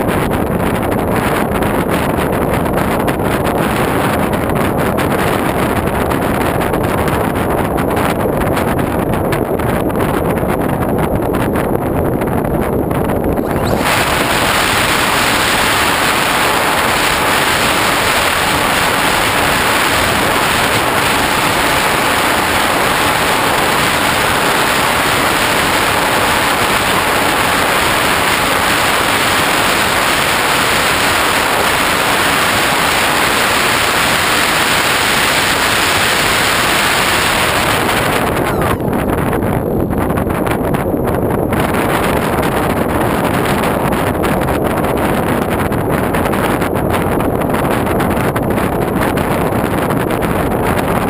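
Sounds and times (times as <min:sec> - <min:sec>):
rushing wind noise: 0:00.0 - 0:51.0.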